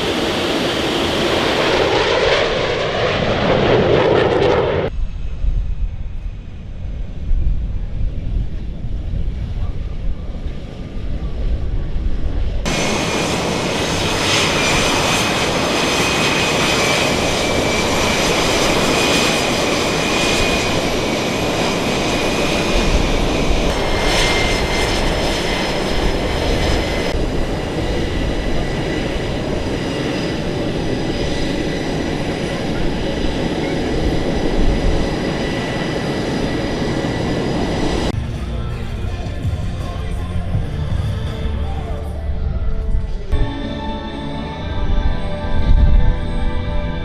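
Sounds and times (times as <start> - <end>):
low wind rumble: 0.0 - 43.6, 44.2 - 47.0
aircraft engine with high whine: 0.0 - 47.0.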